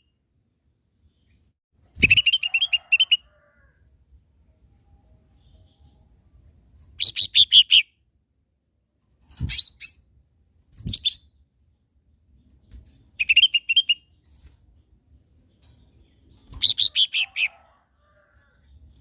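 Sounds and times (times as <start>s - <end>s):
small bird chirping song: 0.0s - 8.1s, 9.2s - 19.0s.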